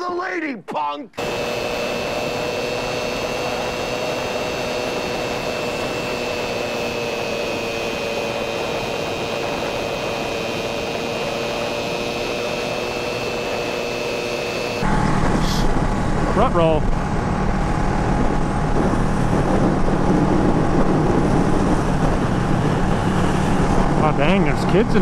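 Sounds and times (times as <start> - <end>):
motorcycle engine drone: 1.2 - 25.0
wind rushing over microphone: 1.2 - 25.0.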